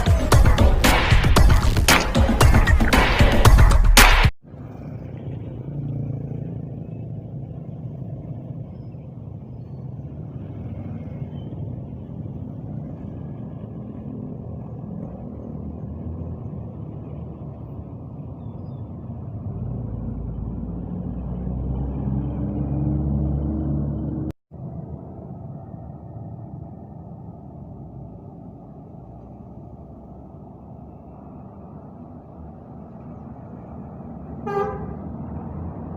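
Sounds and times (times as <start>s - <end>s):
bus engine rumbling: 0.0s - 3.5s, 4.4s - 35.9s.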